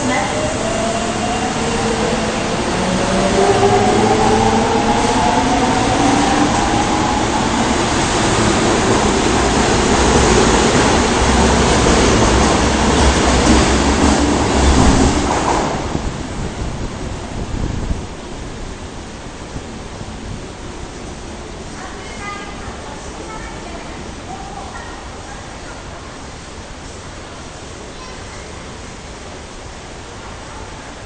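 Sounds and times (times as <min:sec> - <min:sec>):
train wheel and rail noise: 0:00.0 - 0:31.0.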